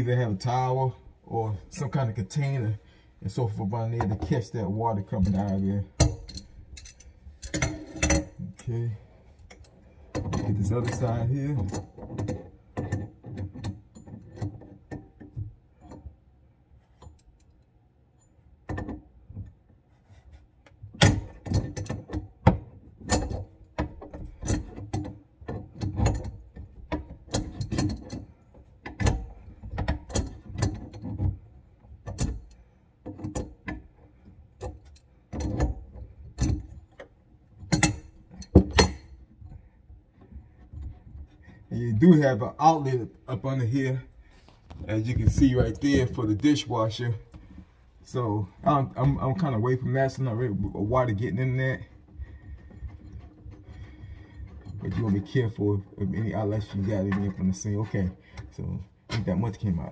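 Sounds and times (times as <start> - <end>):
metal fittings clicking and knocking: 3.5 - 16.2, 16.8 - 59.9.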